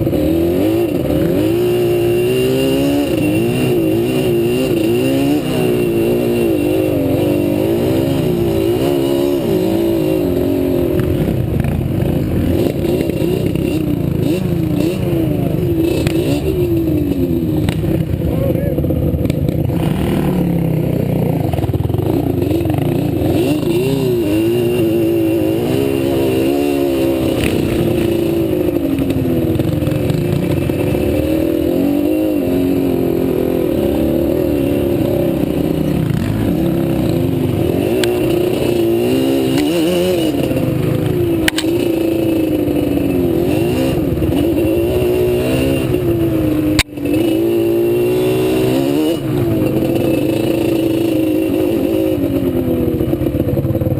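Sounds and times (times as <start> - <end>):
atv engine revving: 0.0 - 53.9.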